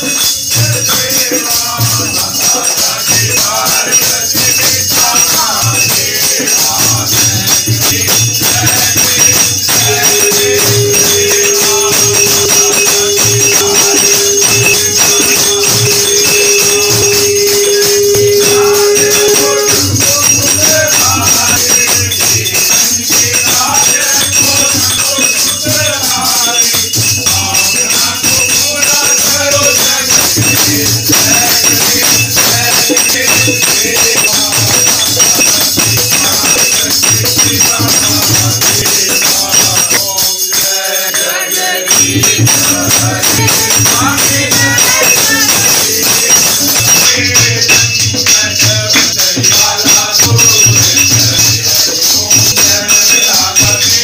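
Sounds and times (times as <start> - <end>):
group devotional singing: 0.0 - 54.0
hand drum beat: 0.0 - 54.0
jingling hand percussion: 0.0 - 54.0.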